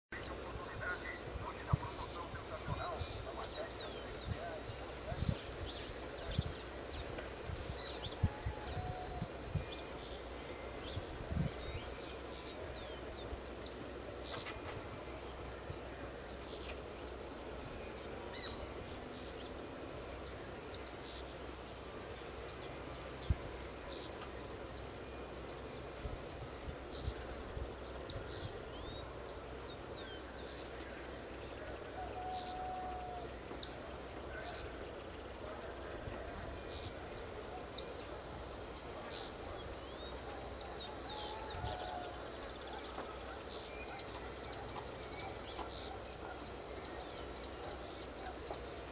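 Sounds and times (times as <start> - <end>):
insect chorus: 0.1 - 48.9.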